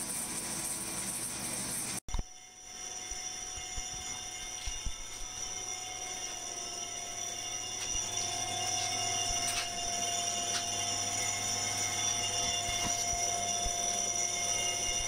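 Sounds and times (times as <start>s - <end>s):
machine tool motor hum and whine: 0.0s - 15.0s.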